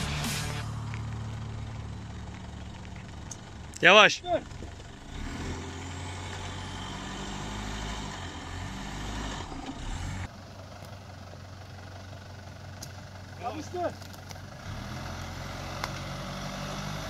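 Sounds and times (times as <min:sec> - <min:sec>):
pickup truck engine running: 0:00.0 - 0:16.4.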